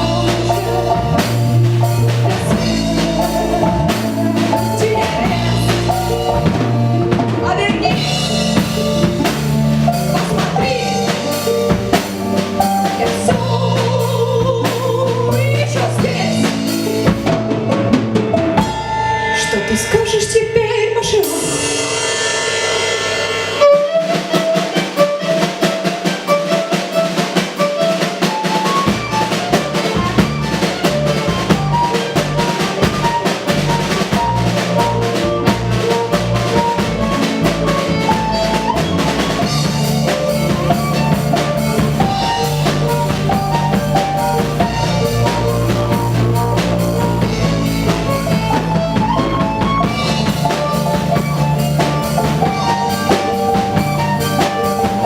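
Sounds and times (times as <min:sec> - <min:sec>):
bass line: 0:00.0 - 0:24.4, 0:28.9 - 0:55.0
drum kit: 0:00.0 - 0:55.0.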